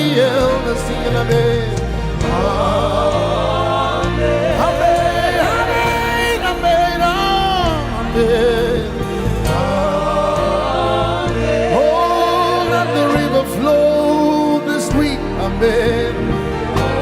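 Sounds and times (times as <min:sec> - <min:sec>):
gospel band playing: 0:00.0 - 0:17.0.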